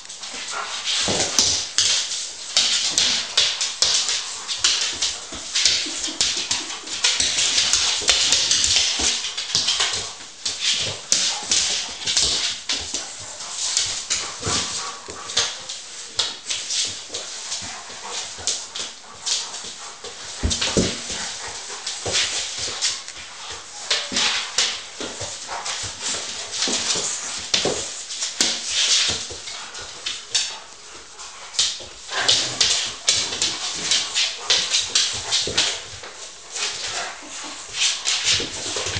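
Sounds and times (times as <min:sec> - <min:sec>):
dog claws clicking on wooden floor: 0:01.0 - 0:37.1.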